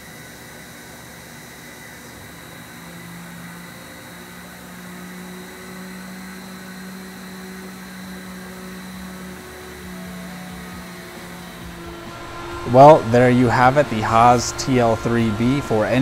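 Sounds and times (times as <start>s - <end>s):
room hum and hiss: 0.0s - 16.0s
low steady tone: 2.8s - 16.0s.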